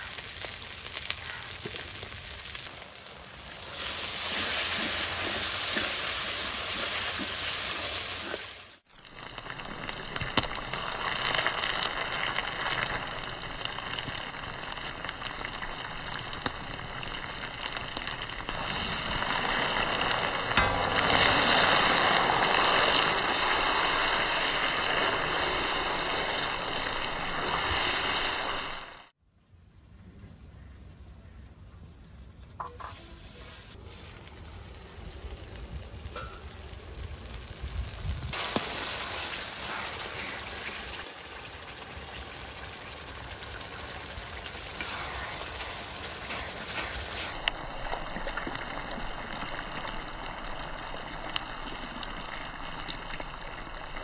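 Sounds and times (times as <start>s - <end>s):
food sizzling and bubbling in pan: 0.0s - 29.2s, 32.2s - 54.0s.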